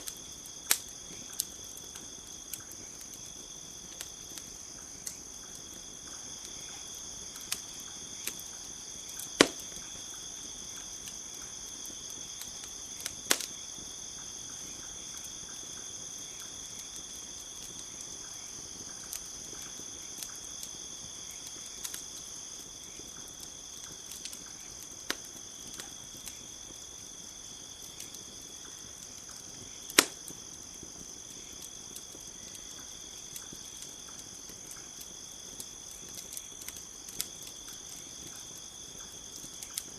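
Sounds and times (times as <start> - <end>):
campfire crackling and popping: 0.0 - 39.9
high insect chorus: 0.0 - 39.9.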